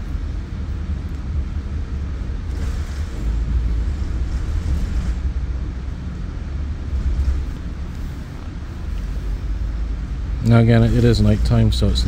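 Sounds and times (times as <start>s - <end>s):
commuter train rumbling on rails: 0.0s - 12.0s.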